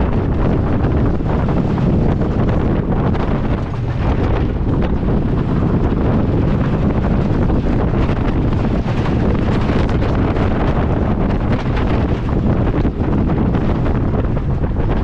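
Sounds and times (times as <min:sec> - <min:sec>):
roller coaster train rumble: 0:00.0 - 0:15.0
wind buffeting microphone: 0:00.0 - 0:15.0.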